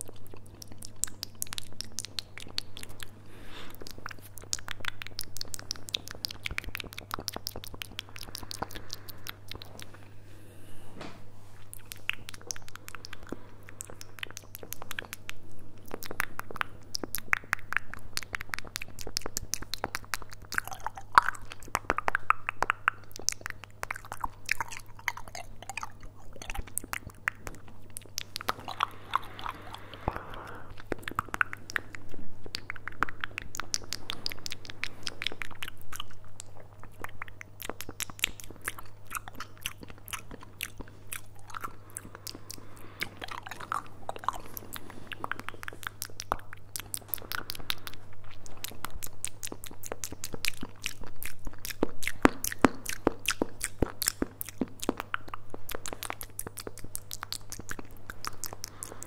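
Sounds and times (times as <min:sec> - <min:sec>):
lip and tongue clicks: 0:00.0 - 0:10.1, 0:11.6 - 0:59.0
steady low hum: 0:00.0 - 0:59.0.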